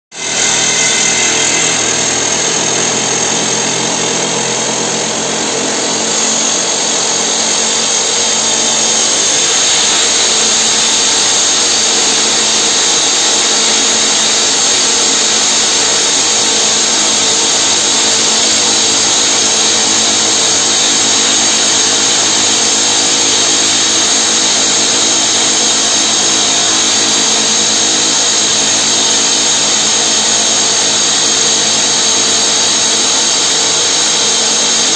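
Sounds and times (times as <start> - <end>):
rock drill drilling: 0.1 - 34.9
steady machine hum: 0.1 - 34.9.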